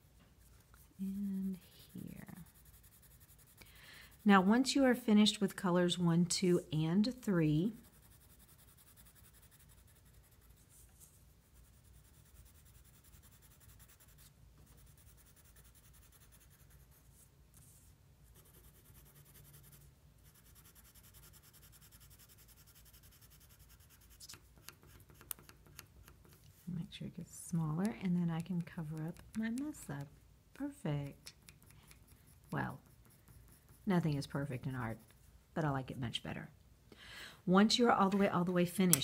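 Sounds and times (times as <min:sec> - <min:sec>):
colored pencil scratching on paper: 0:00.0 - 0:05.4, 0:06.5 - 0:27.0, 0:27.8 - 0:35.3.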